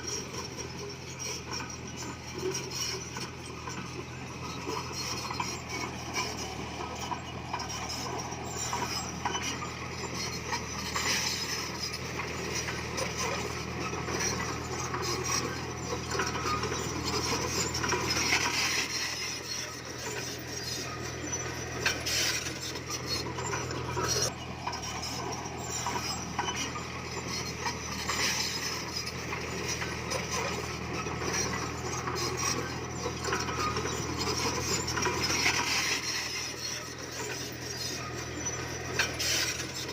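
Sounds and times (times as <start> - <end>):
bulldozer engine hum: 0.0 - 39.9
metallic clanking and scraping: 0.0 - 39.9.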